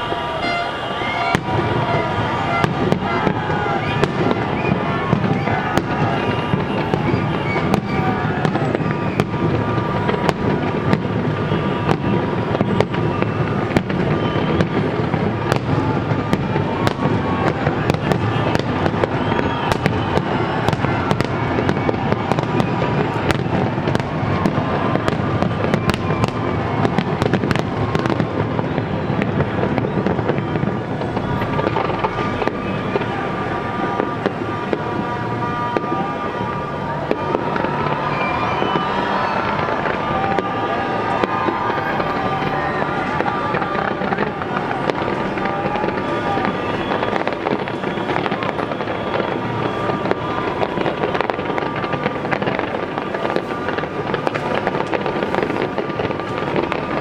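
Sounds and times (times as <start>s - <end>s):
fireworks bangs and crackles: 0.0s - 57.0s
people's voices: 0.0s - 57.0s.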